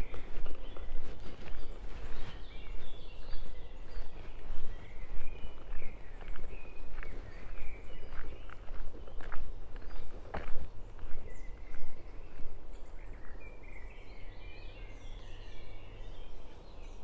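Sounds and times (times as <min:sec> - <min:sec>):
footsteps on forest path: 0:00.0 - 0:17.0
songbirds chirping: 0:00.0 - 0:17.0.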